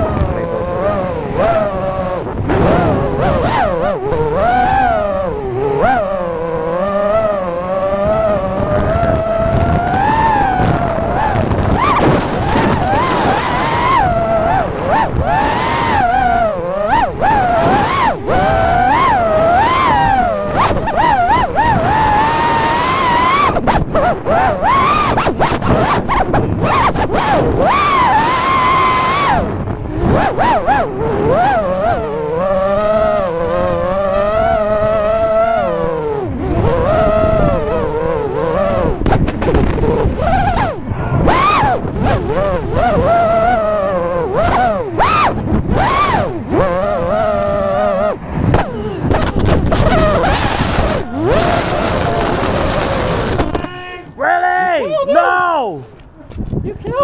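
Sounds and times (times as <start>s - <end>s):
drone motors whining: 0.0s - 53.8s.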